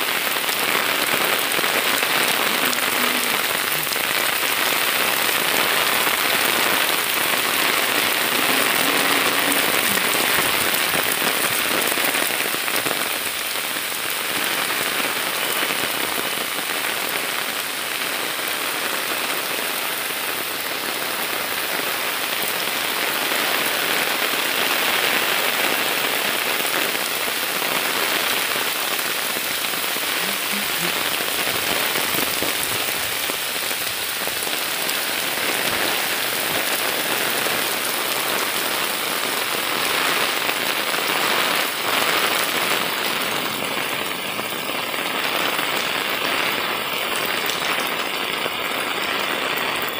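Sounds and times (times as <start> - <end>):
heavy rain pouring on water: 0.0 - 49.9.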